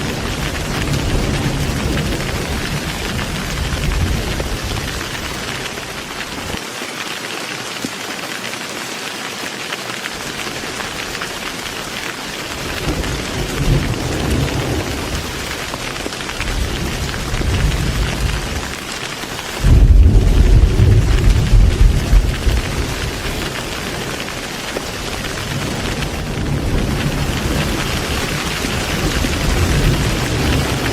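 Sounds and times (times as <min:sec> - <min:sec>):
thunder rumbling: 0:00.0 - 0:06.6, 0:12.4 - 0:30.9
heavy rain hissing: 0:00.0 - 0:30.9.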